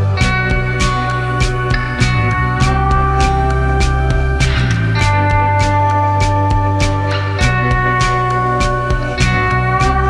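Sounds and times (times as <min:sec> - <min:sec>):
background music with guitar: 0:00.0 - 0:10.0.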